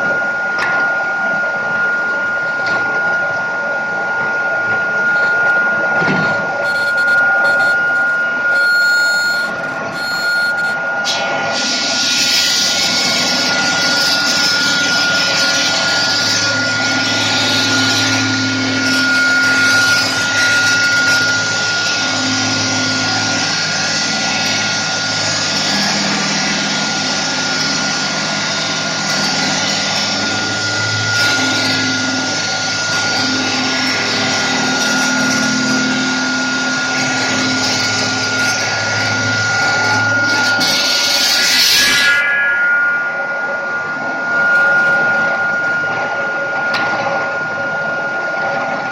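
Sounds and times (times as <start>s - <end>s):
low hum: 0.0s - 41.3s, 42.2s - 48.9s
stone-cutting saw whining: 2.2s - 48.9s.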